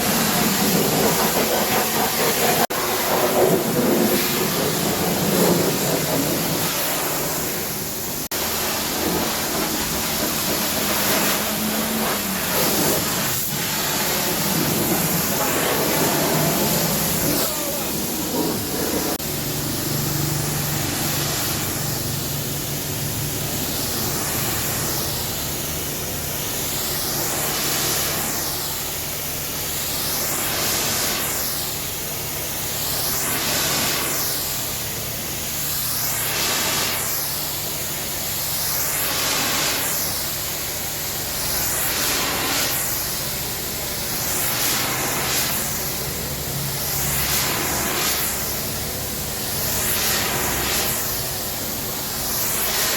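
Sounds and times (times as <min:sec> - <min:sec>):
pressure washer spraying water: 0:00.0 - 0:52.9.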